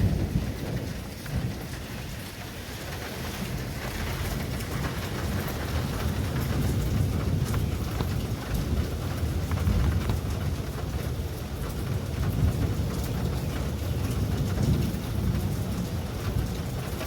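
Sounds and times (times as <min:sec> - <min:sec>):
rolling thunder: 0:00.0 - 0:17.0
storm rain: 0:00.0 - 0:17.0.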